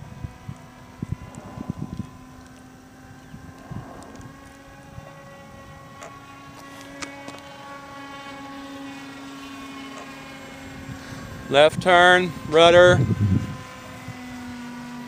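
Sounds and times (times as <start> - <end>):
model airplane motor droning: 0.0 - 15.0.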